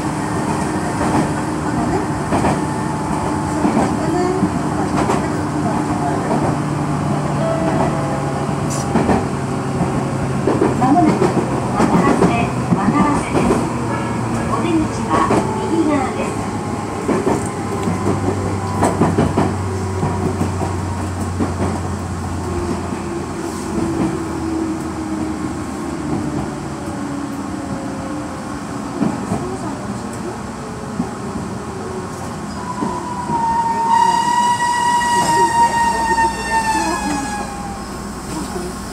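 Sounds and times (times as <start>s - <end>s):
electric train rolling: 0.0s - 38.9s.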